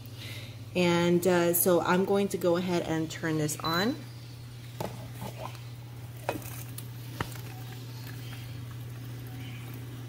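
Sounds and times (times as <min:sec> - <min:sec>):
milk frother humming: 0:00.0 - 0:10.0.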